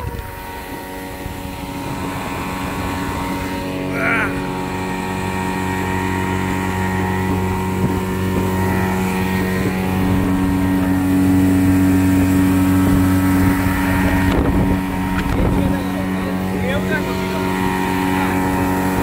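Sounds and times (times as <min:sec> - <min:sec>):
outboard motor running at speed: 0:00.0 - 0:19.0
rushing water: 0:00.0 - 0:19.0.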